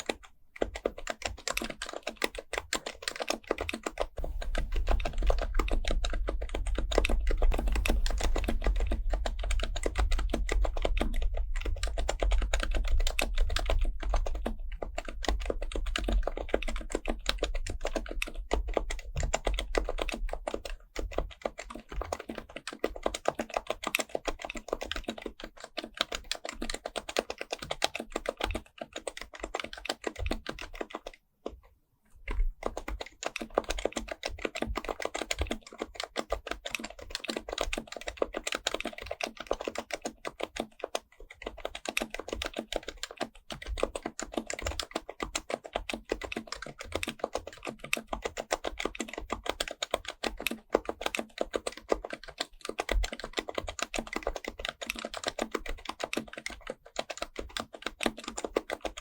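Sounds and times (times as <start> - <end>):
fast keyboard typing: 0.0 - 59.0.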